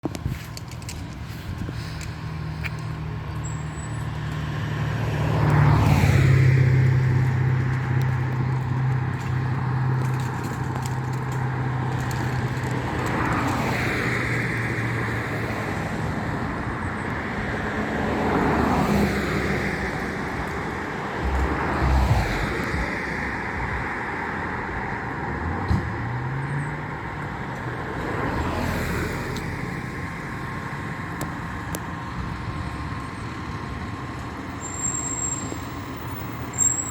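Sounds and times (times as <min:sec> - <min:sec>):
vehicles passing by: 0:00.0 - 0:36.9.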